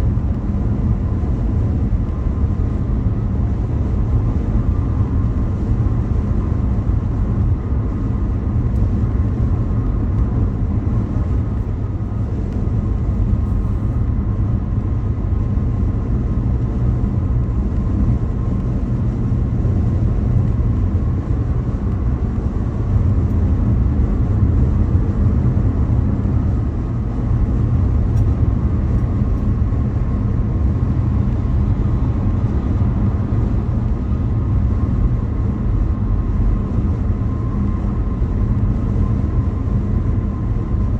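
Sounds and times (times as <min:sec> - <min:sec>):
car road noise at speed: 0:00.0 - 0:40.9.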